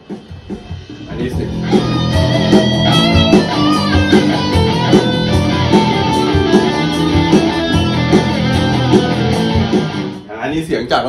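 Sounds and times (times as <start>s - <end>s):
drum backing track: 0.0s - 11.0s
electric guitar lead: 1.0s - 10.3s.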